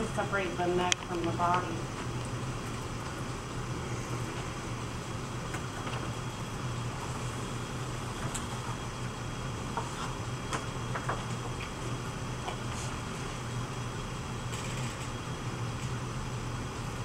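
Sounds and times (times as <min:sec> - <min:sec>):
potter's wheel humming: 0:00.0 - 0:17.0.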